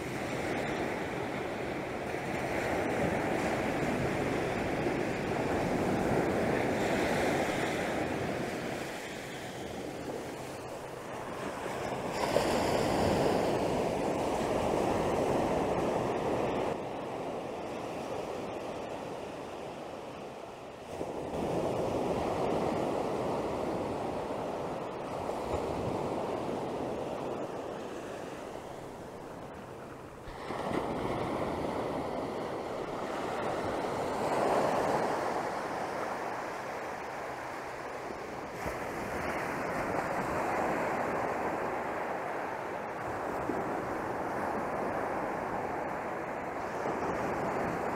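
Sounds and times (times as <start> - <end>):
ocean surf breaking on sand: 0.0 - 47.9.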